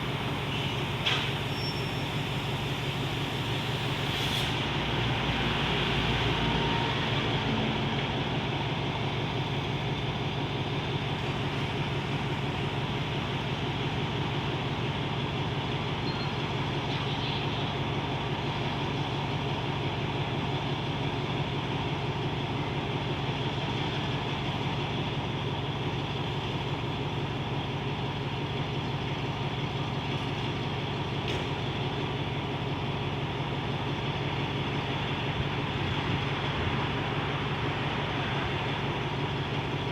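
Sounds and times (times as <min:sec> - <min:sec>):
locomotive diesel engine humming: 0:00.0 - 0:39.9.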